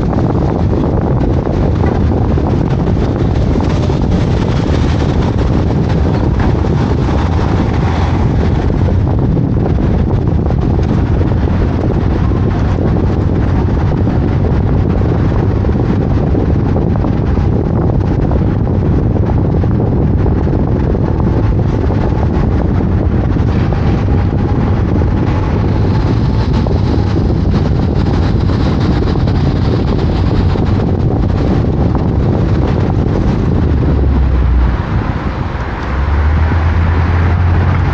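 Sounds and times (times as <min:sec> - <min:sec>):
car driving: 0:00.0 - 0:37.9
wind buffeting microphone: 0:00.0 - 0:37.9.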